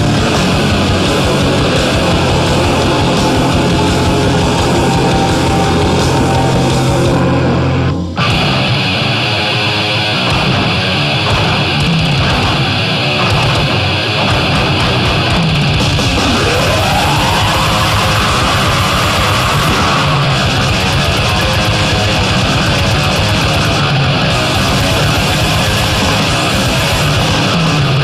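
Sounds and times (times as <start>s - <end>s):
heavy metal music with guitars: 0.0s - 28.0s.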